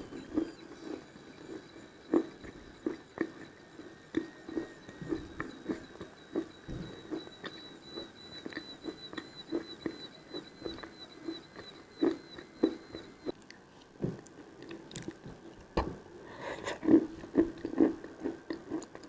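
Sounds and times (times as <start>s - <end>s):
chewing chalk: 0.1s - 13.3s, 16.5s - 19.0s.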